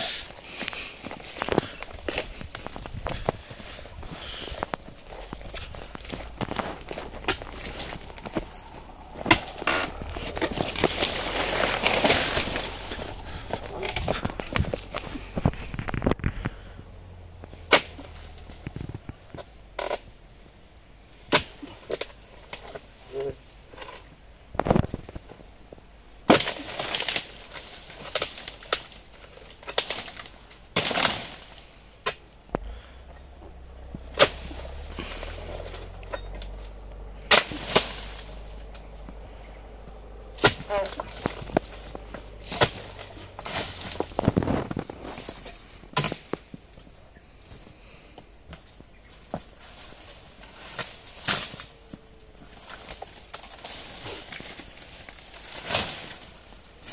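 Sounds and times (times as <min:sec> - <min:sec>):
high-pitched insect drone: 0:00.0 - 0:56.9.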